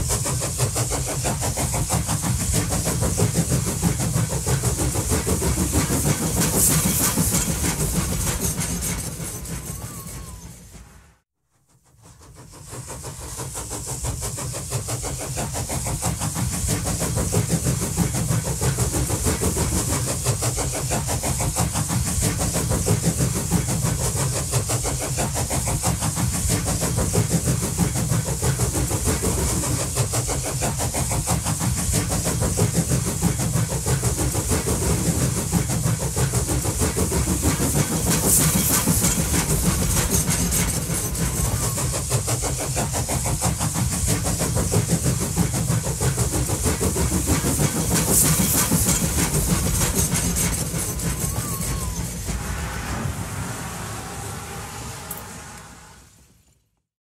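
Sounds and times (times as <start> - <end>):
high steam hiss: 0.0 - 11.2, 11.8 - 56.5
steam locomotive rumble: 0.0 - 11.2, 11.8 - 56.7.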